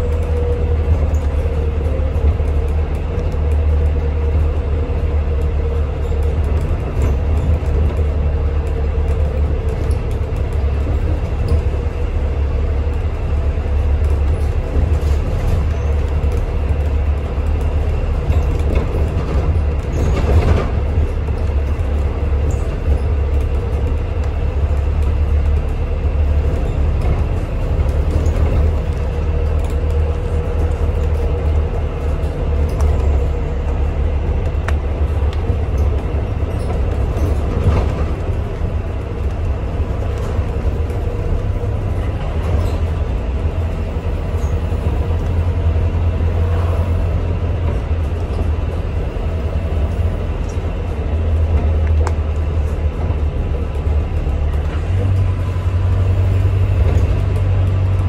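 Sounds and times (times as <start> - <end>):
bus drivetrain and road rumble: 0.0 - 58.0.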